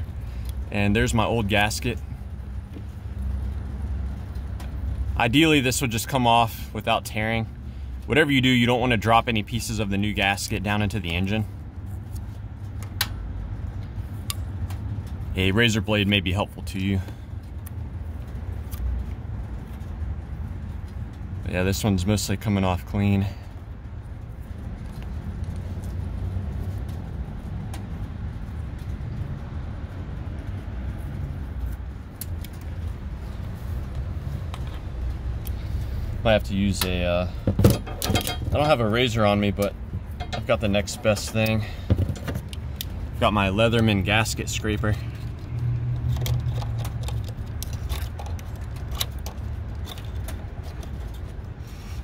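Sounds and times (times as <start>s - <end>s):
steady low rumble: 0.0s - 51.7s.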